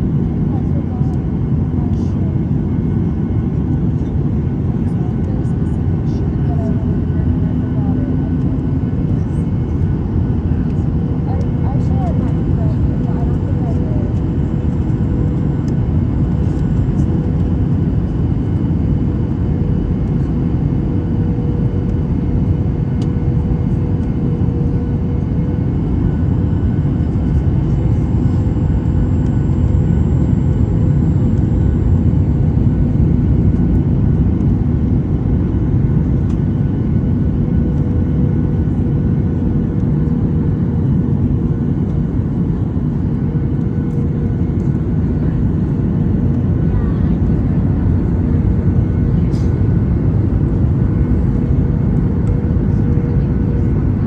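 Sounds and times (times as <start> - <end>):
constant cabin hum: 0.0 - 54.0.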